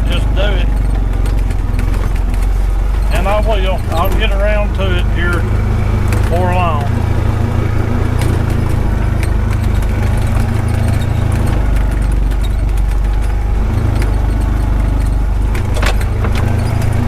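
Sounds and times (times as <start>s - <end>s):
utility vehicle engine drone: 0.0s - 17.0s
vehicle knocks and rattles: 0.0s - 17.0s.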